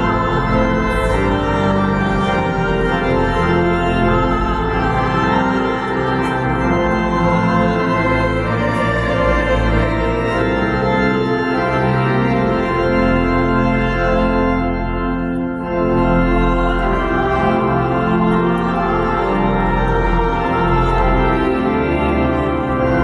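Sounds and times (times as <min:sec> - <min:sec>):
church organ chords: 0:00.0 - 0:23.0.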